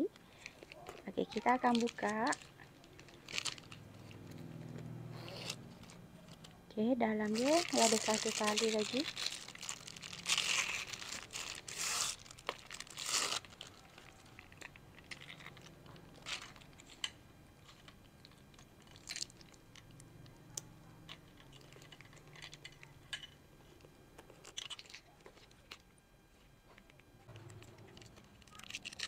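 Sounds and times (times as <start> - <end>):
plastic wrapping crinkling: 0.2 - 4.4, 7.2 - 20.0, 21.0 - 29.0.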